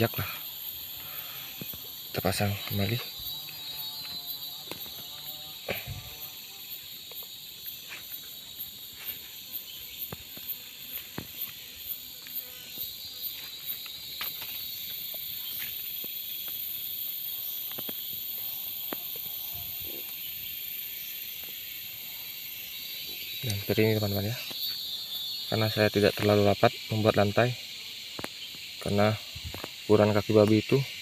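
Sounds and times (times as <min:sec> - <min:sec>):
steady high hiss: 0:00.0 - 0:31.0.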